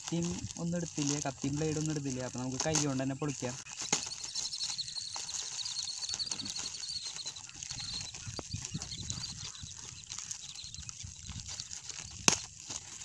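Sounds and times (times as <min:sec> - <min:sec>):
plastic mailer tearing and crinkling: 0:00.0 - 0:13.0
rapid high chirping: 0:00.1 - 0:13.0.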